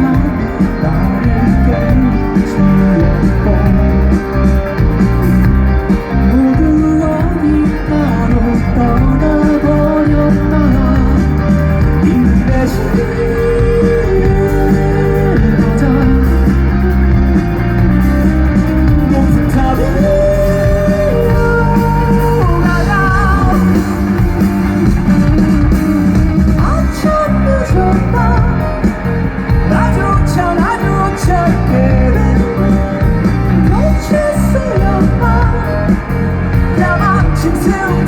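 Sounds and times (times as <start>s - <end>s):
bass guitar: 0.0s - 38.0s
drums: 0.0s - 38.0s
electric guitars: 0.0s - 38.0s.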